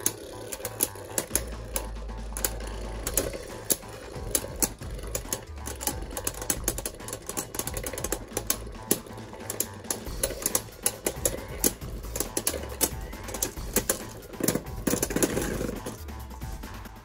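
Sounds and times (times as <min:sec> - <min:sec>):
spinning tops clicking together: 0:00.0 - 0:16.7.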